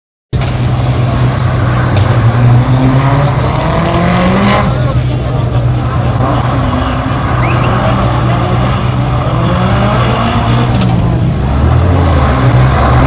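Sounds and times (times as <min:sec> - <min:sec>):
rally car engine revving: 0:00.4 - 0:13.0.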